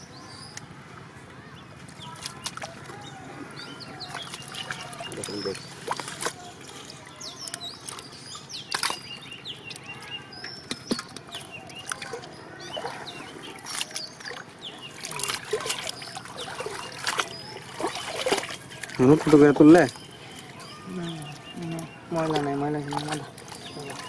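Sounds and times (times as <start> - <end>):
splashing in shallow muddy water: 1.6 - 24.0.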